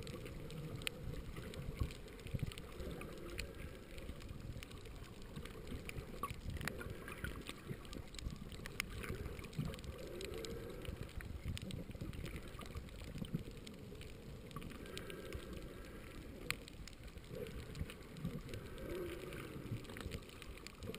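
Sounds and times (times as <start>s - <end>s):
muffled underwater water rumble: 0.0s - 20.9s
sharp clicks and crackles: 0.0s - 20.9s.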